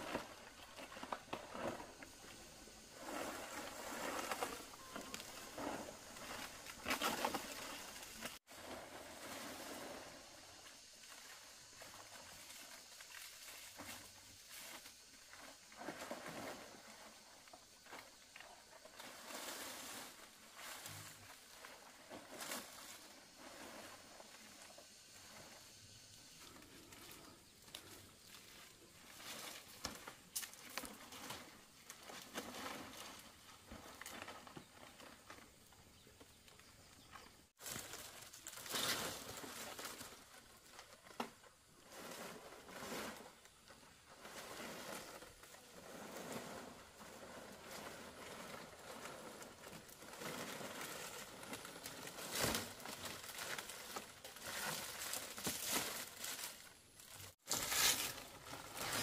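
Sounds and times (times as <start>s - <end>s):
palm leaves rustling: 0.0s - 35.5s, 36.5s - 59.0s.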